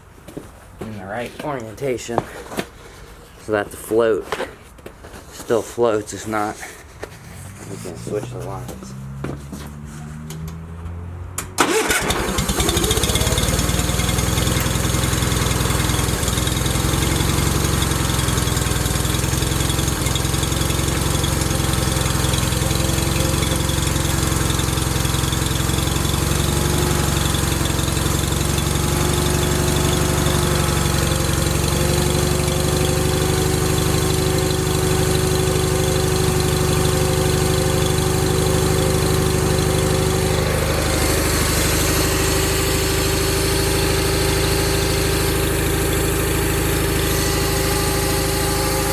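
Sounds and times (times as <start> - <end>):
tractor engine idling: 6.4 - 48.9.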